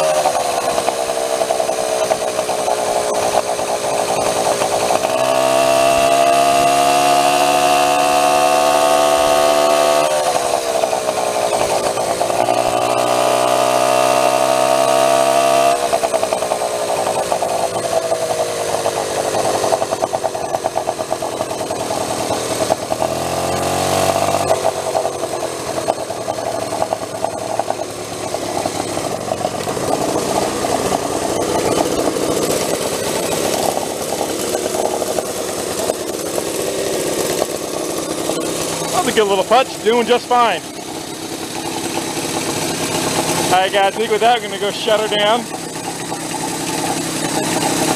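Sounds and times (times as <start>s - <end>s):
small gas engine revving: 0.0s - 47.9s.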